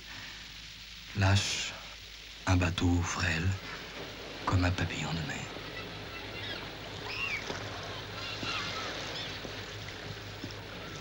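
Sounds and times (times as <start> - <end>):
watery ambience: 0.0 - 11.0.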